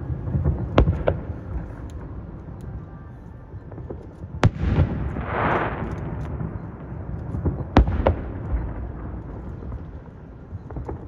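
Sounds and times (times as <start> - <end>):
fireworks bangs: 0.0 - 2.2, 3.7 - 11.0
fireworks crackling: 0.0 - 11.0.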